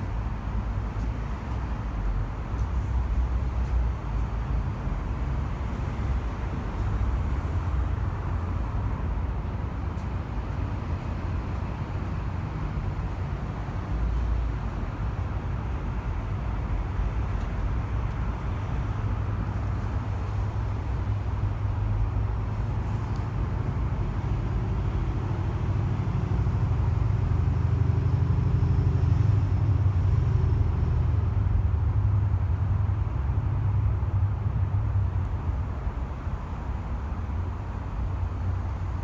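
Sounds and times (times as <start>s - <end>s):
expressway traffic roar: 0.0s - 39.0s.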